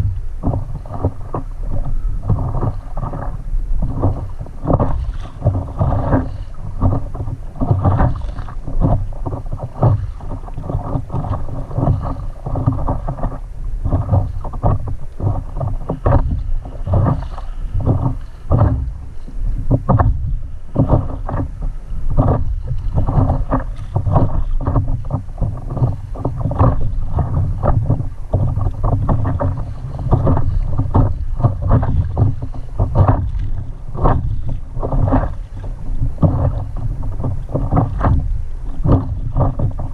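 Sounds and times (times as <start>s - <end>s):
water slapping against paddleboard: 0.0s - 39.9s
wind rumble on microphone: 0.0s - 39.9s.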